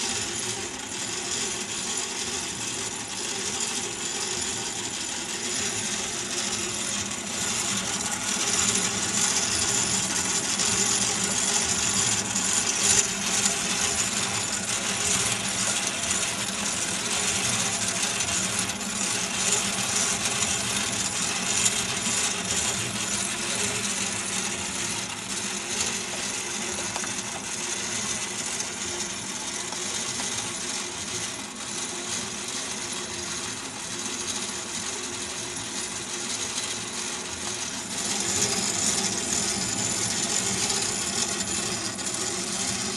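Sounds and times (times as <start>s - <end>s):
model engine metallic clatter: 0.0s - 42.9s.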